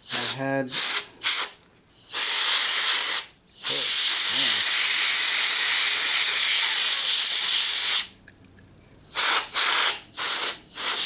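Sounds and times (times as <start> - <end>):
compressed air spraying: 0.0 - 8.2, 9.0 - 11.0.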